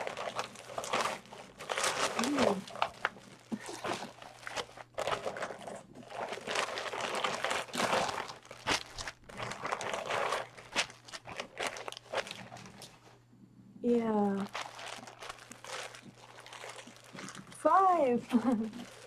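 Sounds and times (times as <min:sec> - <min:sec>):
plastic packaging crinkling: 0:00.0 - 0:13.1, 0:13.9 - 0:19.0.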